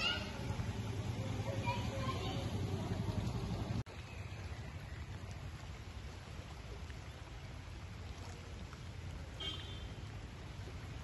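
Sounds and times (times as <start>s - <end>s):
rushing floodwater: 0.0s - 11.0s.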